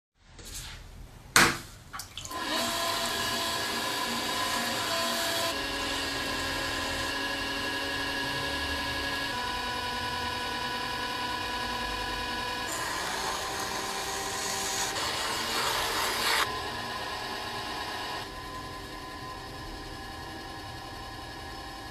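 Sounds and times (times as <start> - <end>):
potter's wheel motor hum: 2.3 - 21.9.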